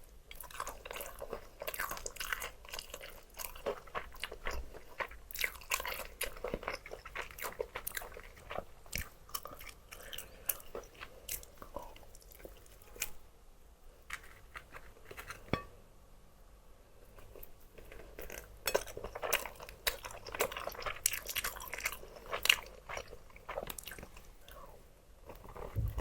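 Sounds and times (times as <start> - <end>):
chewing crispy fried chicken: 0.0 - 13.2, 14.0 - 15.6, 17.1 - 25.9.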